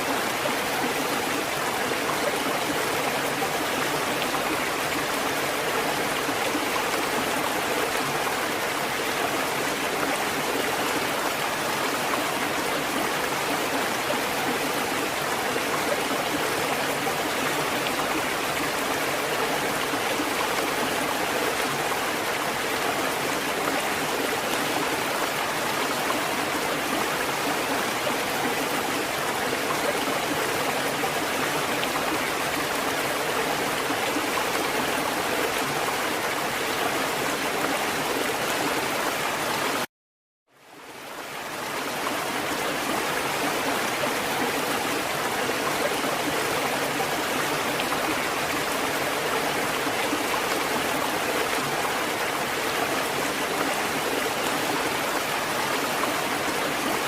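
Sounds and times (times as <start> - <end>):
flowing water rushing: 0.0 - 39.9, 40.6 - 57.0.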